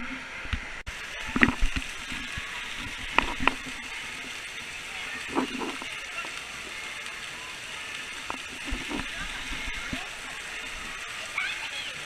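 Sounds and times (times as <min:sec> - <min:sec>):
running and splashing water: 0:00.0 - 0:12.0.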